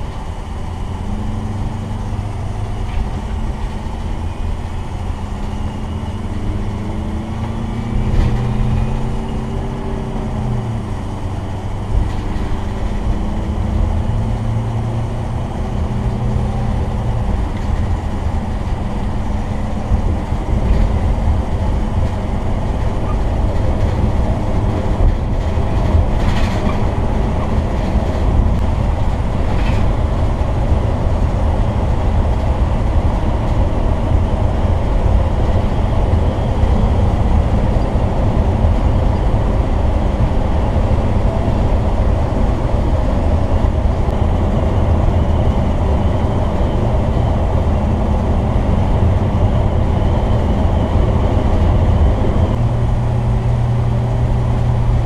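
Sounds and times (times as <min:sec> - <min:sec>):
diesel engine drone: 0:00.0 - 0:55.0
road noise: 0:00.0 - 0:55.0.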